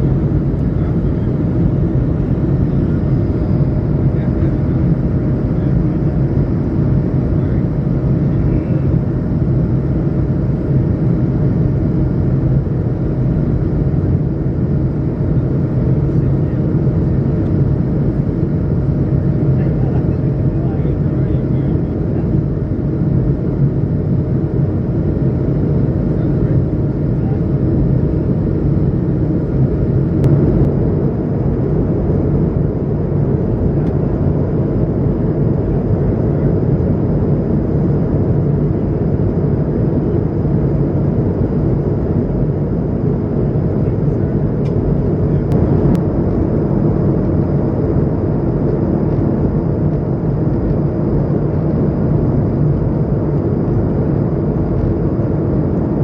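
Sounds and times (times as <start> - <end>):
jet cabin drone: 0.0 - 56.0.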